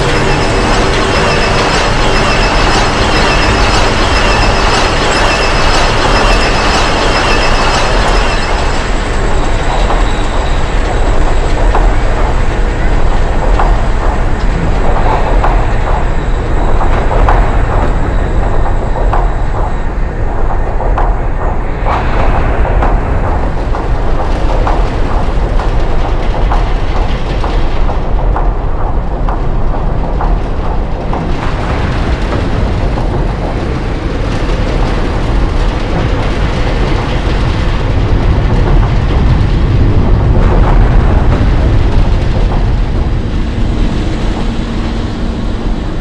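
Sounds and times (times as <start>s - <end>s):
dense rumbling noise: 0.0s - 46.0s
rapid clattering clicks: 0.0s - 46.0s.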